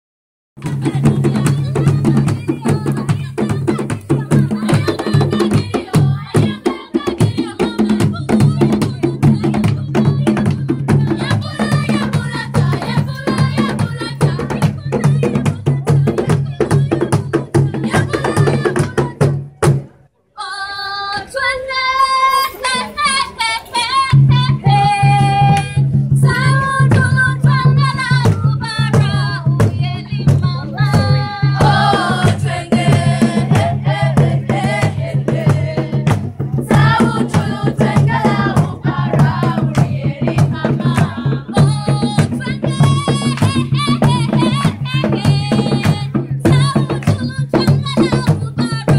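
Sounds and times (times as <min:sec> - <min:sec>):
drums and percussion: 0:00.6 - 0:20.0, 0:22.3 - 0:48.9
women and children singing: 0:00.6 - 0:48.9.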